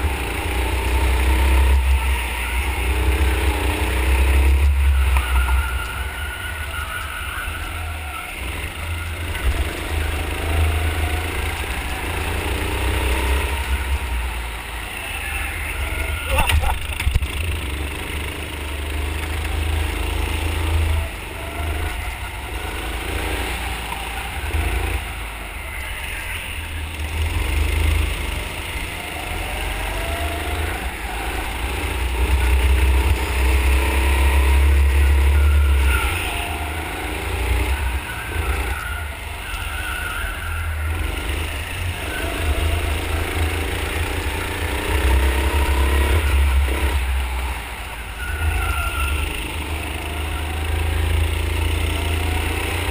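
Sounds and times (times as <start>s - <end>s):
go-kart engine revving: 0.0s - 52.9s.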